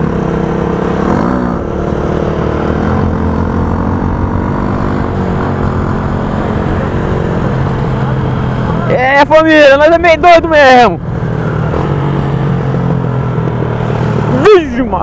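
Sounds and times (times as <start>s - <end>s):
motorcycle engine running: 0.0s - 9.2s, 9.8s - 15.0s.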